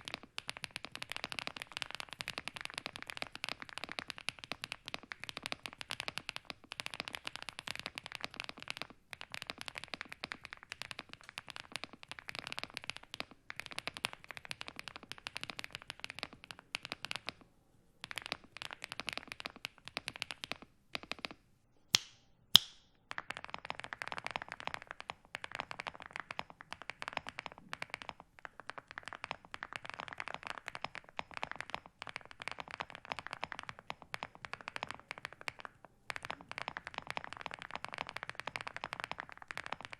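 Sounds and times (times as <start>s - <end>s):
mechanical keyboard typing: 0.0s - 17.4s, 18.0s - 21.4s, 23.1s - 39.9s.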